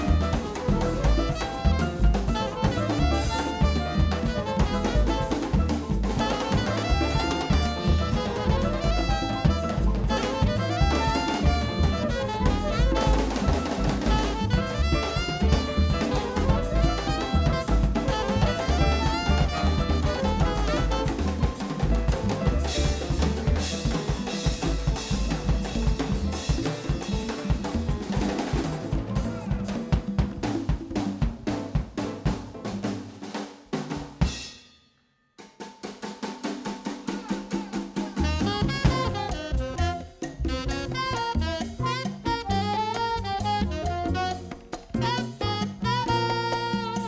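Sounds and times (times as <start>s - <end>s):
latin jazz band playing: 0.0s - 34.5s, 35.8s - 47.0s
drum kit: 0.0s - 34.8s, 35.4s - 47.0s.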